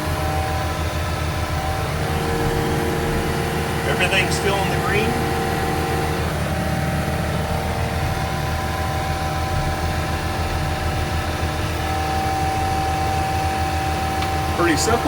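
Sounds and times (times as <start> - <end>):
diesel engine drone: 0.0 - 15.0
snowblower high whine: 0.0 - 15.0.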